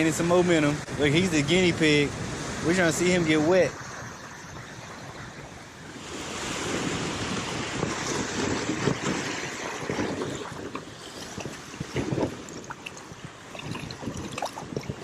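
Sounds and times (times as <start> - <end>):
ocean surf breaking: 0.0 - 4.4, 5.0 - 14.0
wind buffeting microphone: 0.0 - 15.0.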